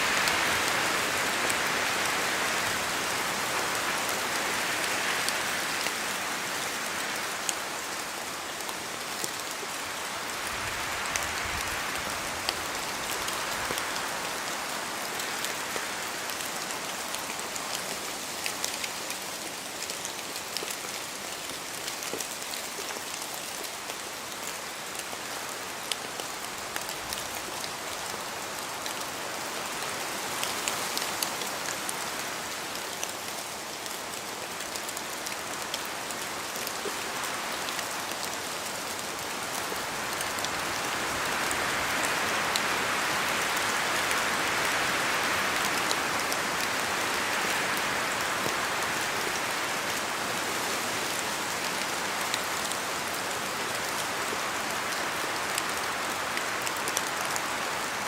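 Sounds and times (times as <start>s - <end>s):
steady rain: 0.0s - 58.0s
wind: 0.0s - 58.0s.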